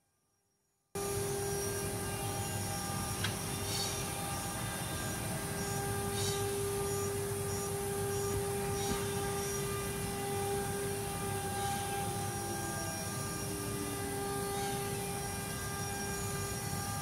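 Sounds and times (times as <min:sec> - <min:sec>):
motor hum: 0:01.0 - 0:17.0
spindle high whine: 0:01.0 - 0:17.0.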